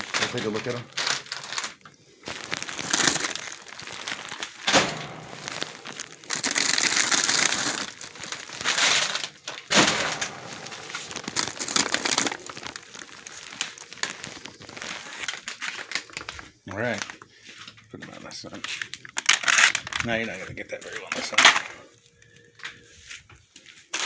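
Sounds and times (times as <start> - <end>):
plastic bags crinkling: 0.0 - 22.9, 23.8 - 24.0.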